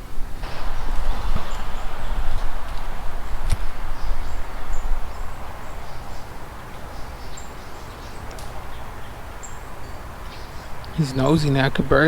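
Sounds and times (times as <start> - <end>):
high bird chirps: 0.0 - 12.0
steady outdoor noise: 0.0 - 12.0
wind rumble on microphone: 0.0 - 12.0.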